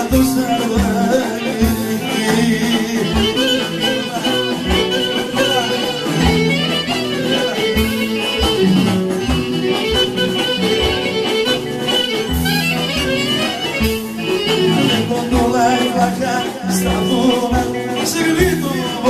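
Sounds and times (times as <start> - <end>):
clarinet melody: 0.0 - 19.0
electric guitar: 0.0 - 19.0
steady drum beat: 0.0 - 19.0.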